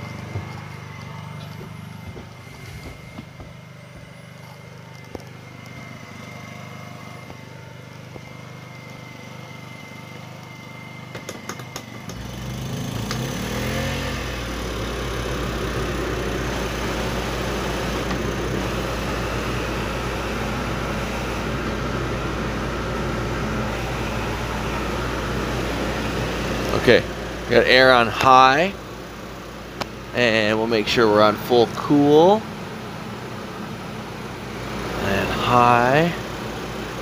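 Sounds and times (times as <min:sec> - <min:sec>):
air conditioner blower rushing: 0:00.0 - 0:37.0
generator humming: 0:00.0 - 0:37.0.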